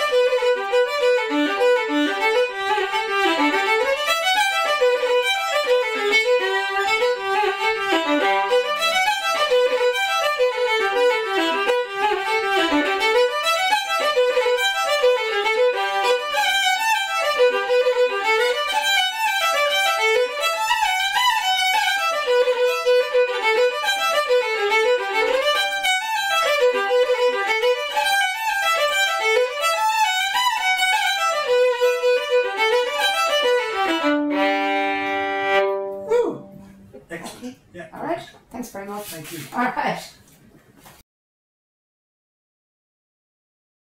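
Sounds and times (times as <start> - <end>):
solo fiddle playing lively tune: 0.0 - 36.6.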